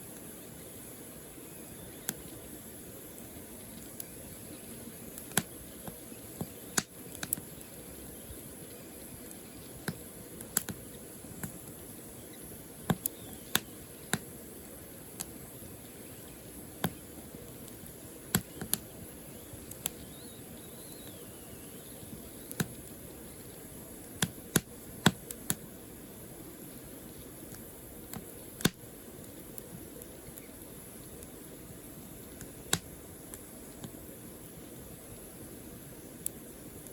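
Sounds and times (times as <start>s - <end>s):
firewood crackling and popping: 0.0s - 36.9s
low hiss of fire: 0.0s - 36.9s.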